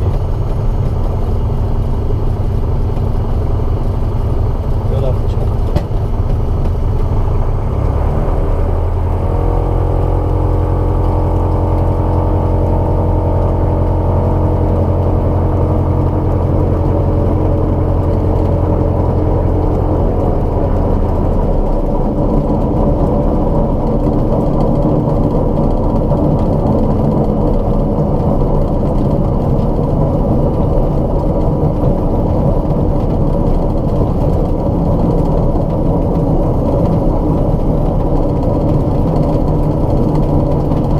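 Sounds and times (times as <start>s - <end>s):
aircraft piston engine running: 0.0s - 40.9s.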